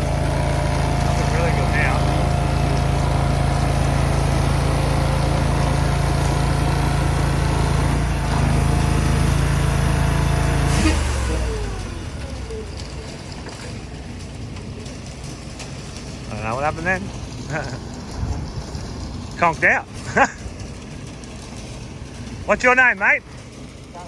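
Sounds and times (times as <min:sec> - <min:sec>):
small petrol engine stalling: 0:00.0 - 0:24.0.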